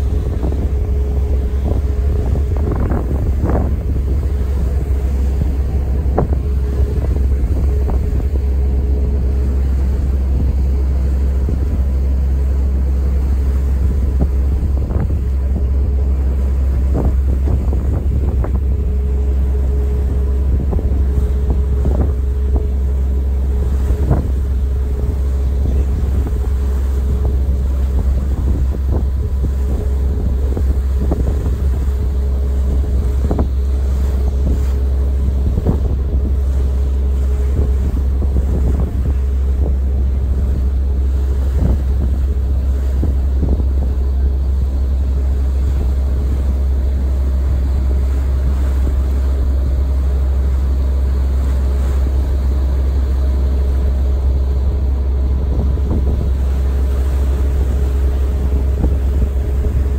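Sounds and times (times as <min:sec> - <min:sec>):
ferry engines droning: 0:00.0 - 0:59.9
wind on microphone: 0:00.0 - 0:59.9.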